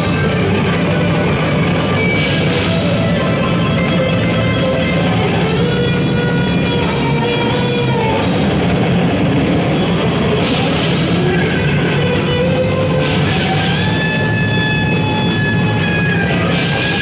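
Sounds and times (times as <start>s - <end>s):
distorted electric guitar: 0.0s - 17.0s
rapid drumming: 0.0s - 17.0s.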